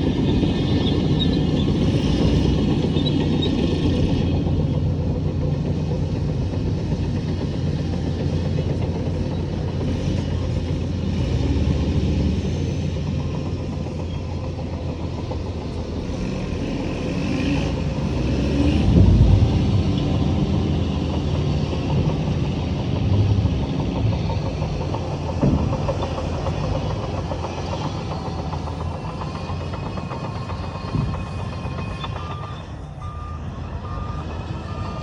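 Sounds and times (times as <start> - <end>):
heavy diesel engine rumbling: 0.0 - 35.0.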